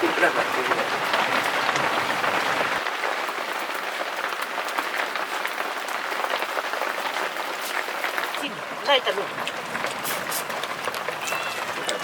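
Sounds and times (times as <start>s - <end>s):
hail rattling: 0.0s - 12.0s.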